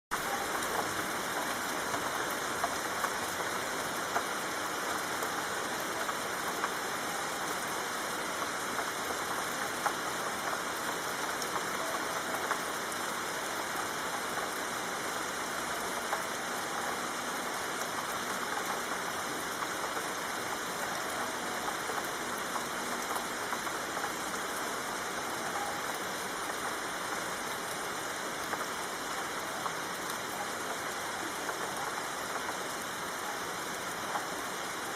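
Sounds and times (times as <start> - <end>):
raindrops ticking: 0.1 - 34.9
soft rain hiss: 0.1 - 34.9.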